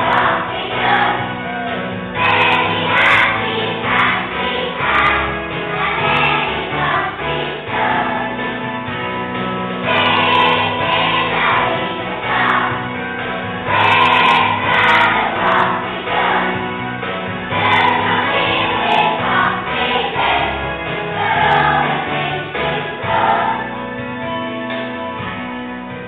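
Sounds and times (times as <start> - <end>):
children singing in unison: 0.0 - 8.4, 9.8 - 16.7, 17.5 - 23.7
musical accompaniment low notes: 0.0 - 26.0.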